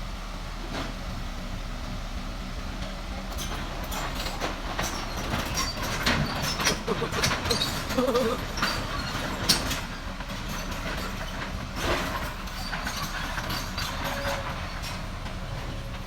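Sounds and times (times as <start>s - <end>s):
excavator engine rumble: 0.0s - 16.0s.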